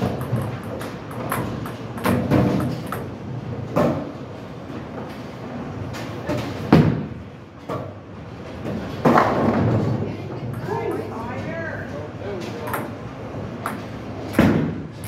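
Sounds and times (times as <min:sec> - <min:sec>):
bowling balls rolling: 0:00.0 - 0:15.0.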